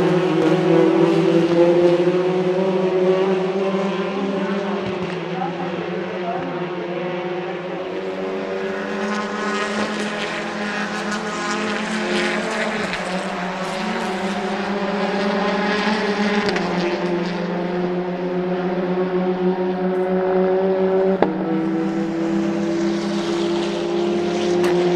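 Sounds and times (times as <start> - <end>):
racing car engine at high revs: 0.0 - 24.9.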